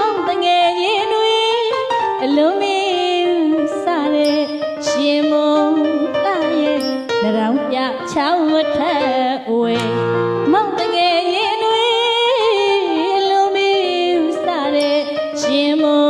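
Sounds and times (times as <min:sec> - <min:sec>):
keyboard accompaniment: 0:00.0 - 0:16.0
woman singing: 0:00.0 - 0:16.0.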